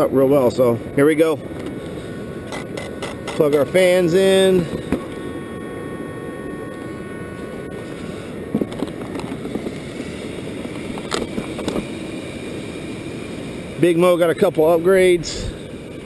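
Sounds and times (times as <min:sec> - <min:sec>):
cooling fans whirring: 0:00.0 - 0:16.0.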